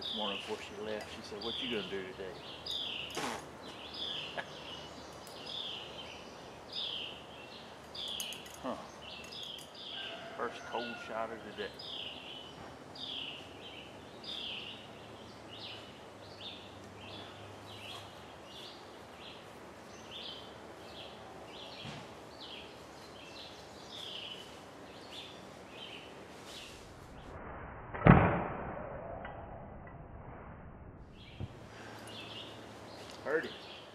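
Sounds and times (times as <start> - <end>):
bird chirping: 0.0 - 27.3, 31.1 - 33.9.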